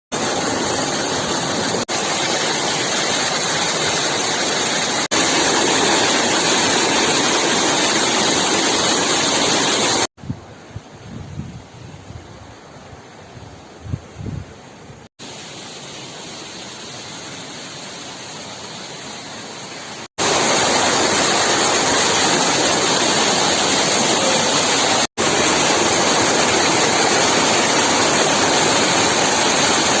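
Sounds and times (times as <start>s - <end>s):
waterfall rushing: 0.1s - 10.1s, 15.2s - 30.0s.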